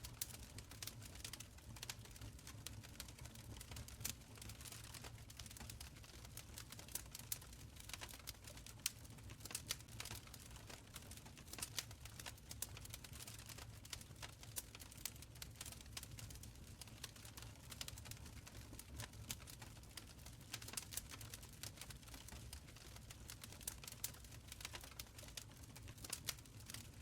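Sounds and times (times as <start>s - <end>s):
low rumble of burning: 0.0s - 27.0s
wood fire crackling: 0.0s - 27.0s.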